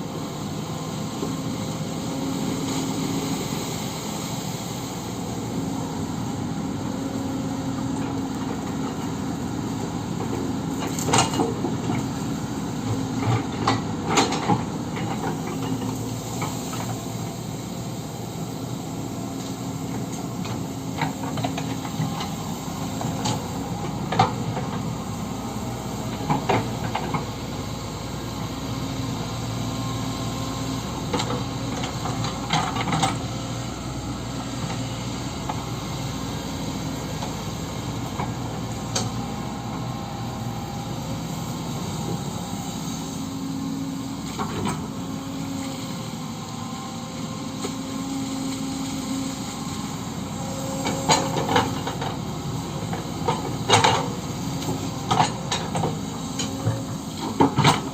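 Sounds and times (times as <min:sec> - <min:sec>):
excavator engine running: 0:00.0 - 0:57.9.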